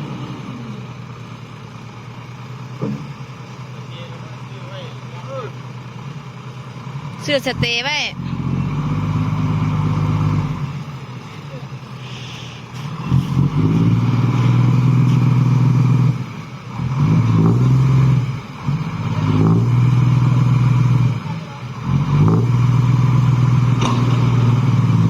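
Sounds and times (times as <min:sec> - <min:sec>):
vehicle engine running under load: 0:00.0 - 0:25.0.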